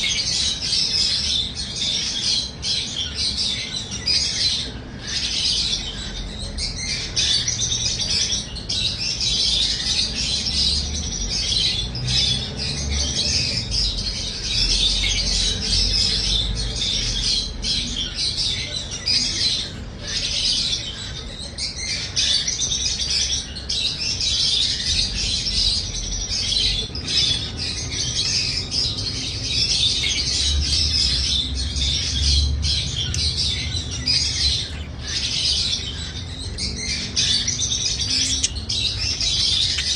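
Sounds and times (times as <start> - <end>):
parrots chirping: 0.0 - 39.9.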